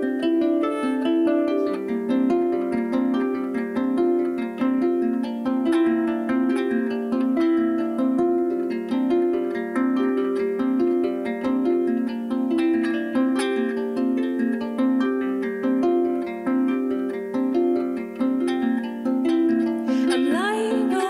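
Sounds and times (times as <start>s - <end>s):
harp plucked notes: 0.0s - 21.0s.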